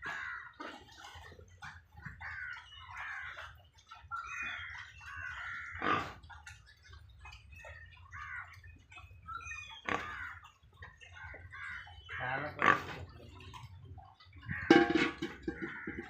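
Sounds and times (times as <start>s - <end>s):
farm animals calling: 0.0s - 16.0s.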